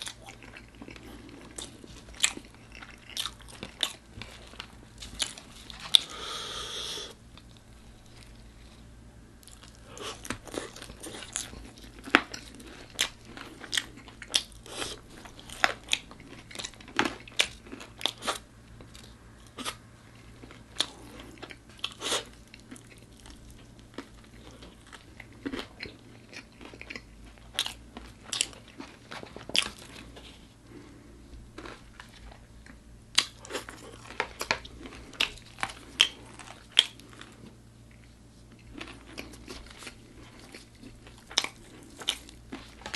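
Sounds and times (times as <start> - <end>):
chewing: 0.0 - 6.2, 7.4 - 42.9
crunching fried food: 0.0 - 6.2, 7.3 - 42.9.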